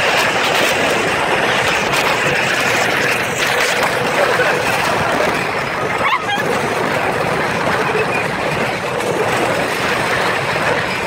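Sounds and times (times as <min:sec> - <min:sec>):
coaster train running on track: 0:00.0 - 0:11.0
wind rushing over microphone: 0:00.0 - 0:11.0.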